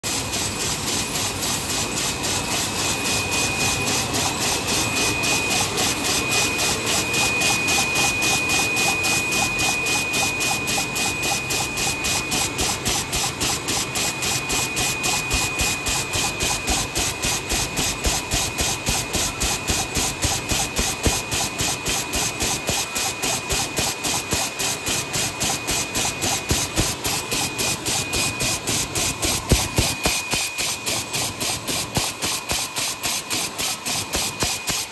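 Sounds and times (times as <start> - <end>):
machine hiss pulsing: 0.1 - 34.9
thin high whine: 0.2 - 34.9.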